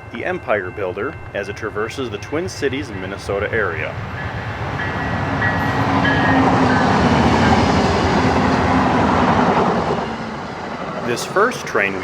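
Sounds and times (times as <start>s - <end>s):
passenger train passing: 0.0s - 12.0s.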